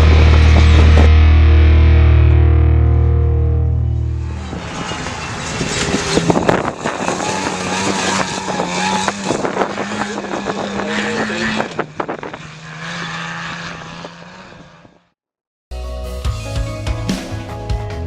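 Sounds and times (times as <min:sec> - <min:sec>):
truck engine droning: 0:00.0 - 0:15.2.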